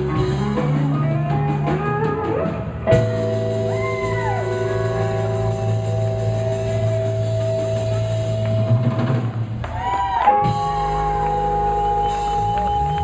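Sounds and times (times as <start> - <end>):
blues band playing: 0.0 - 13.0
drums: 0.0 - 13.0.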